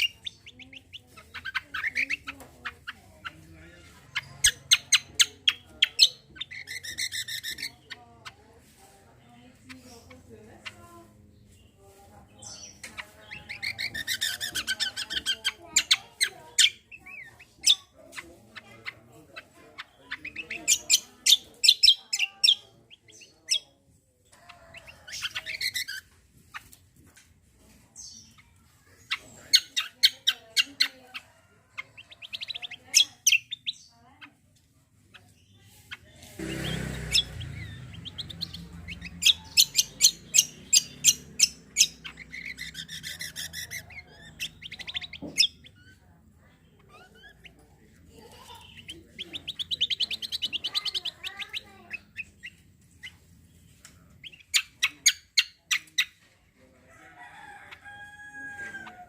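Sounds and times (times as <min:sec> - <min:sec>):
songbird singing staccato notes: 0:00.0 - 0:23.7, 0:28.0 - 0:56.2.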